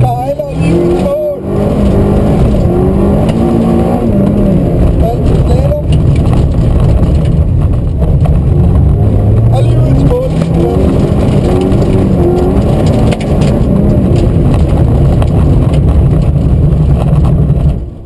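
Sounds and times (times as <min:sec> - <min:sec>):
rally car engine high revs: 0:00.0 - 0:07.1, 0:08.3 - 0:17.2.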